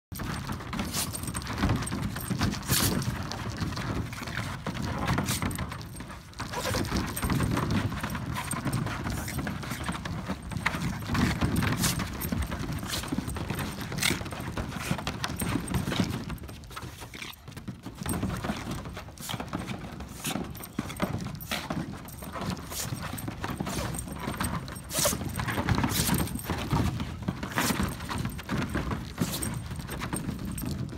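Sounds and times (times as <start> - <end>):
dog claws clicking and scrabbling: 0.1 - 30.9
dogs play growling: 0.8 - 16.3, 18.4 - 30.7.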